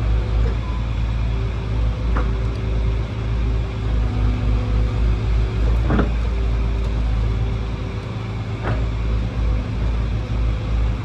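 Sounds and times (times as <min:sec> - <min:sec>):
excavator engine rumbling: 0:00.0 - 0:11.0.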